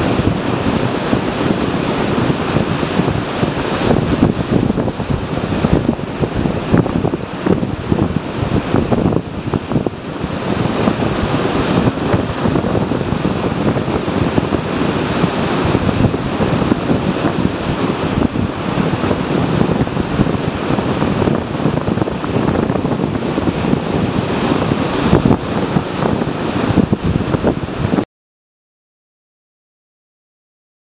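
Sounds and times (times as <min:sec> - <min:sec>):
surf breaking on beach: 0:00.0 - 0:28.0
wind buffeting microphone: 0:00.0 - 0:28.0.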